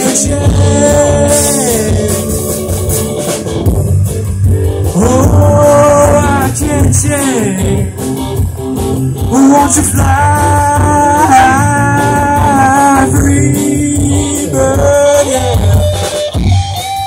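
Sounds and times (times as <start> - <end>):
drum kit: 0.0 - 17.0
electric bass: 0.0 - 17.0
electric guitars: 0.0 - 17.0.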